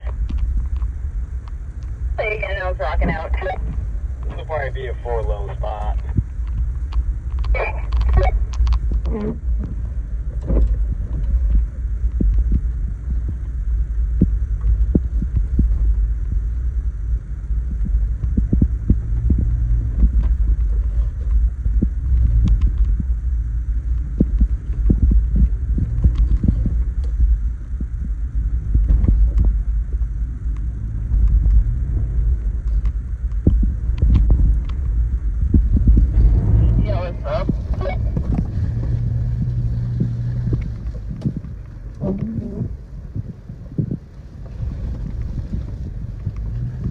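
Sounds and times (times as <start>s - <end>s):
vehicle engine low rumble: 0.0s - 46.9s.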